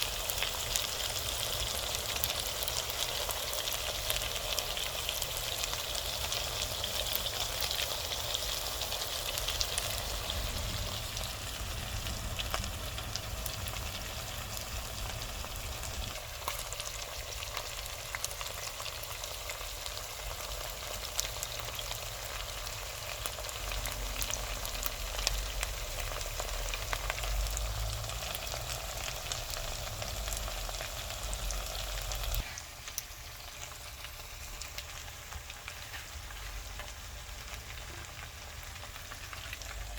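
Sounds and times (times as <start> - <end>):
chicken frying in oil: 0.0 - 39.9.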